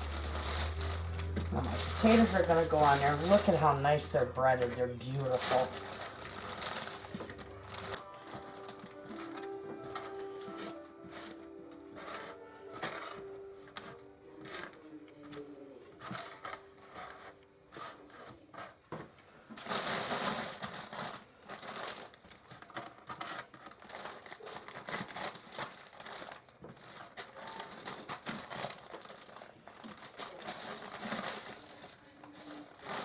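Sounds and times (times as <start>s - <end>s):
plastic bag crinkling: 0.0s - 33.0s.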